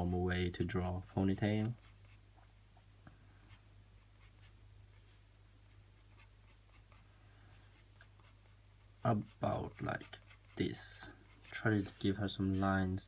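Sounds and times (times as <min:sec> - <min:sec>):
pencil scratching on paper: 0:00.0 - 0:02.3, 0:03.5 - 0:05.1, 0:05.7 - 0:13.0
low electrical hum: 0:00.0 - 0:13.0.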